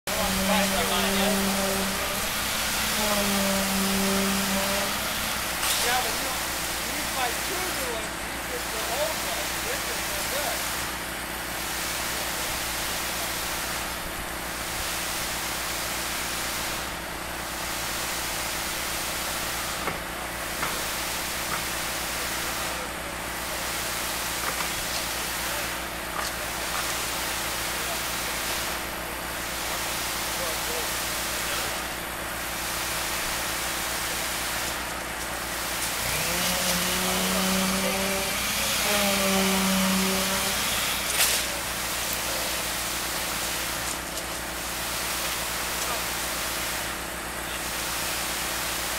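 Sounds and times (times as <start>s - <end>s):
concrete pump running: 0.0s - 48.9s
motor humming drone: 0.1s - 46.4s.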